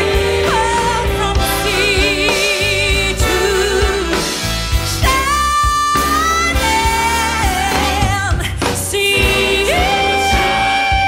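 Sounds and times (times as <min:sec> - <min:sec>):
song with full band: 0:00.0 - 0:11.0.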